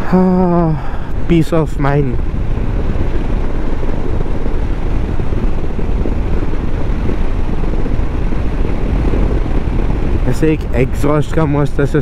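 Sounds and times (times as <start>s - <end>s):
motorcycle engine and exhaust: 0.0s - 12.0s
wind and road noise: 0.0s - 12.0s.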